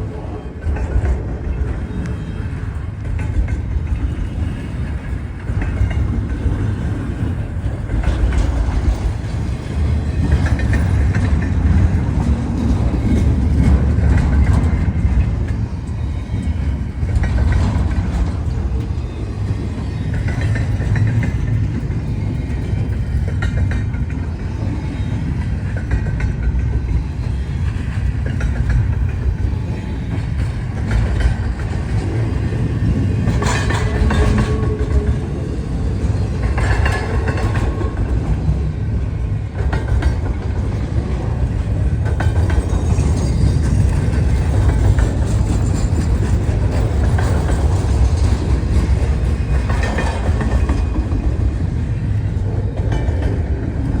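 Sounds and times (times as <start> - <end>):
freight train rumble: 0.0 - 54.0
wheels clacking over rail joints: 0.2 - 54.0.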